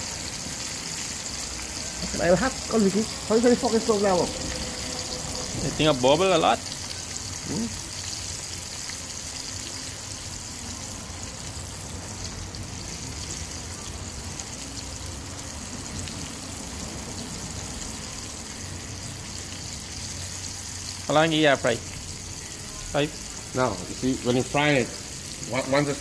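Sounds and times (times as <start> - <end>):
fish frying in hot oil: 0.0 - 26.0.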